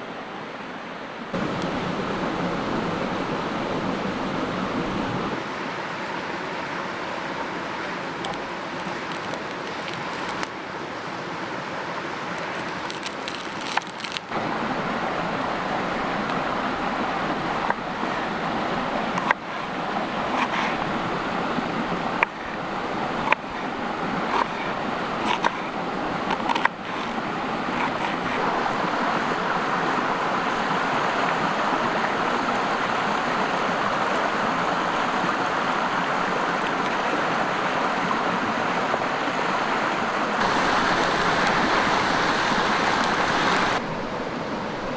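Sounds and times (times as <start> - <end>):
creek water rushing: 0.0 - 44.9.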